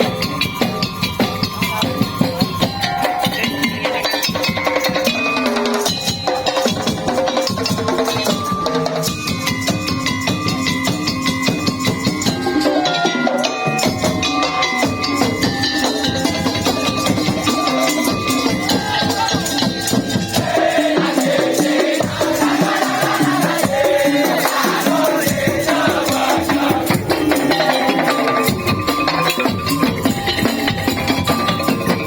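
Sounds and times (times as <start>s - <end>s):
band music: 0.0s - 32.0s
wavering melody: 0.0s - 32.0s.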